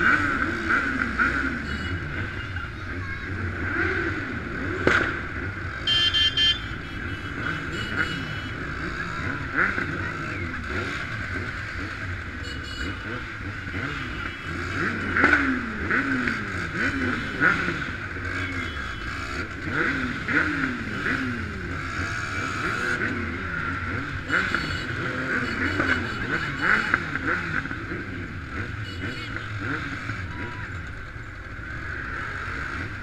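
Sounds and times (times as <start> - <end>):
motorcycle engines throttle blips: 0.0 - 33.0.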